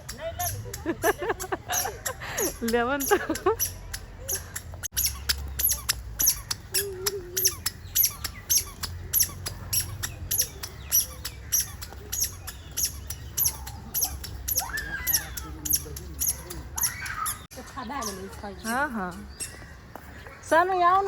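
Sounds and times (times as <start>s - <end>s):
birds squawking high-pitched: 0.3s - 21.0s.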